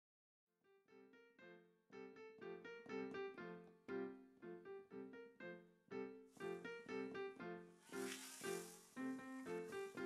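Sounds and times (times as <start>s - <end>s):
slow keyboard melody: 0.9s - 10.0s.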